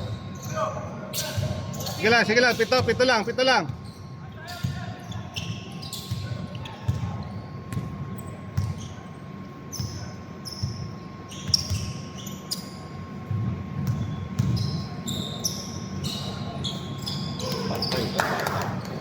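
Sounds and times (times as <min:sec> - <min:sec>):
murmur of large hall: 0:00.0 - 0:19.0
sneakers squeaking on floor: 0:00.0 - 0:19.0.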